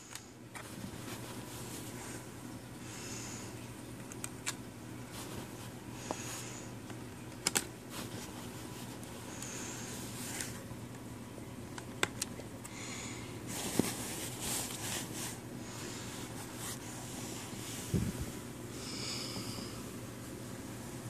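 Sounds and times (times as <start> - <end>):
soft hissy breaths: 0.0 - 7.2, 7.8 - 10.8, 12.6 - 21.0
steady low hum: 0.0 - 21.0.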